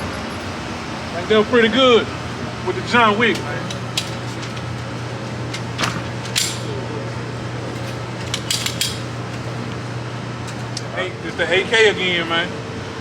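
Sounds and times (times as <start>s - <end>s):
low ventilation hum: 0.0s - 13.0s.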